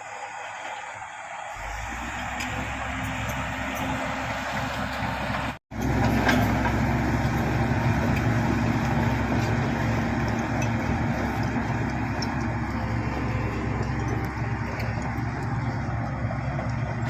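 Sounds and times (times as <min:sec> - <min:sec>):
bulldozer diesel engine running: 0:00.0 - 0:17.0.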